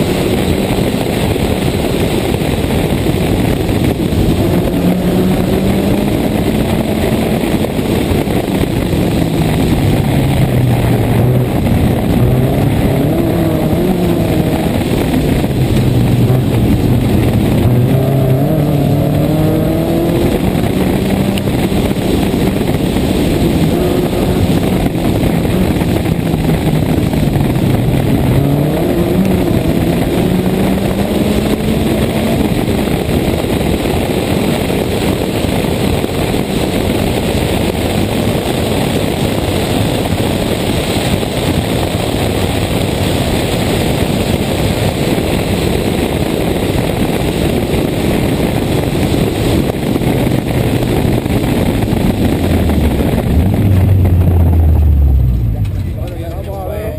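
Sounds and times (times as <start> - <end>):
rally car engine revving: 0.0 - 56.9
road noise: 0.0 - 56.9
wind noise: 0.0 - 56.9.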